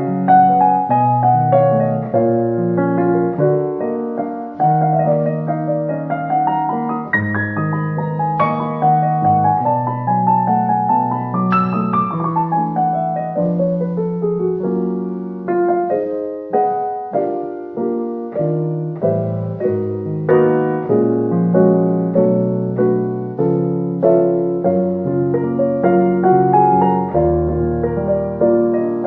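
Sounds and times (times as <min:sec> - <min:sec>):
slow gentle piano piece: 0:00.0 - 0:29.0.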